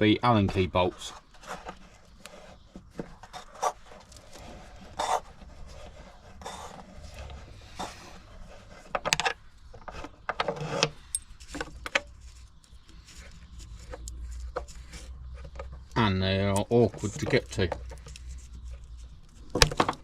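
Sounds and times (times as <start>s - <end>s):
tools scraping and rubbing: 0.5s - 20.0s.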